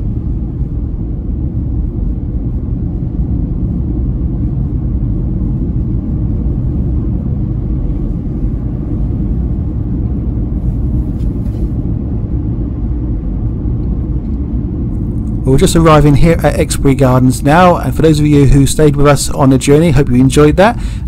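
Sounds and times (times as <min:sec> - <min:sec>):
car interior engine and tyre rumble: 0:00.0 - 0:20.8.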